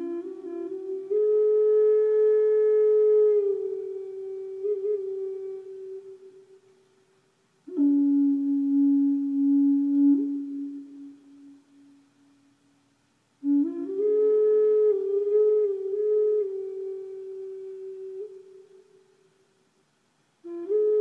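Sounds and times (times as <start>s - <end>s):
flute playing slow melody: 0.0s - 19.4s, 20.4s - 21.0s.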